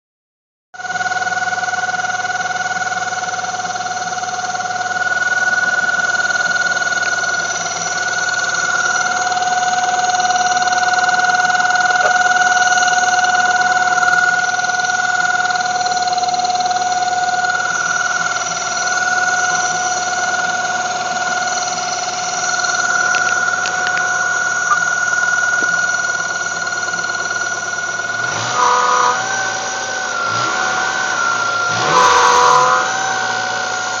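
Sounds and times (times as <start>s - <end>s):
car engine idling: 0.8s - 34.0s
high-pitched engine whine: 0.8s - 34.0s.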